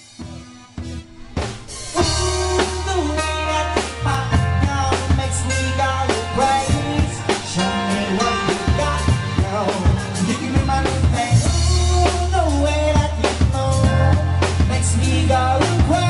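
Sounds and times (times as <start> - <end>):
drum kit: 0.0 - 16.0
electric keyboard: 0.0 - 16.0
heavy bass: 0.3 - 16.0.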